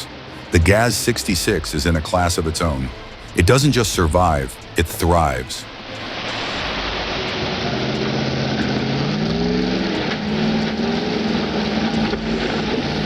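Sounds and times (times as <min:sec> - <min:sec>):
rushing water: 0:00.0 - 0:13.0
truck engine working hard: 0:00.0 - 0:13.0.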